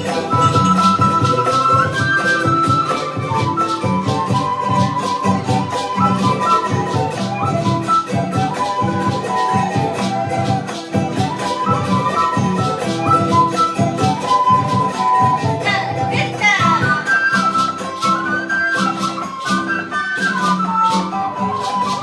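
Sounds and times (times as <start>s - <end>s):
flute melody: 0.0s - 22.0s
strummed plucked strings: 0.0s - 22.0s.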